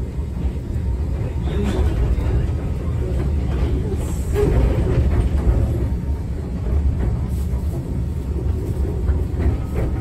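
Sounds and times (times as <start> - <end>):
electric train running: 0.0 - 10.0.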